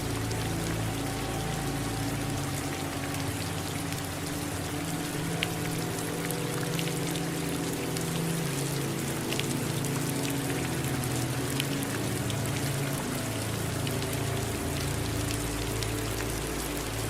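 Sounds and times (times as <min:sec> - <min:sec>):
low steady hum: 0:00.0 - 0:17.0
steady rain falling: 0:00.0 - 0:17.0.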